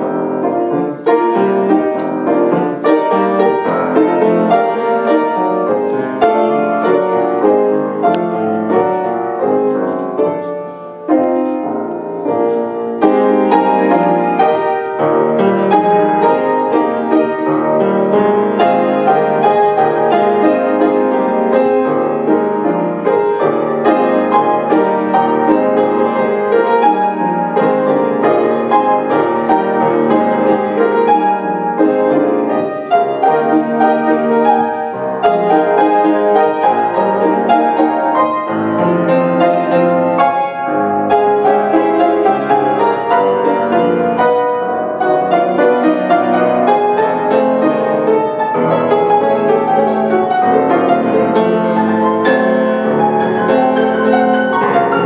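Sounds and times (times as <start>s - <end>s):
fast grand piano passage: 0.0s - 55.0s.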